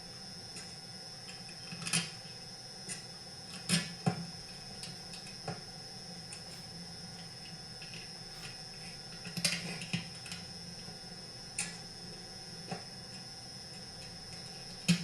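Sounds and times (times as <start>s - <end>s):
steady hiss with high whine: 0.0s - 15.0s.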